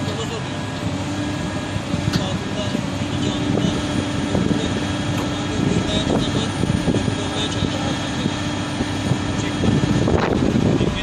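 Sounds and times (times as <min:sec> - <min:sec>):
excavator engine and hydraulics: 0:00.0 - 0:11.0.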